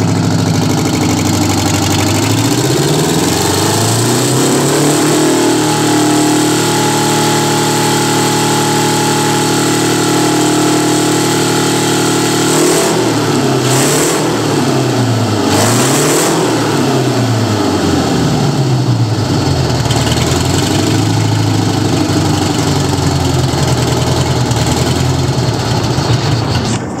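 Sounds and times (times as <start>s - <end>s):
diesel engine running and revving: 0.0s - 27.0s.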